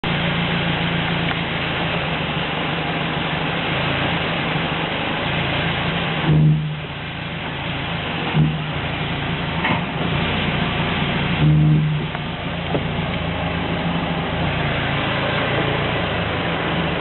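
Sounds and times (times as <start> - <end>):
constant noise: 0.0 - 17.0
steering rack humming: 0.0 - 17.0.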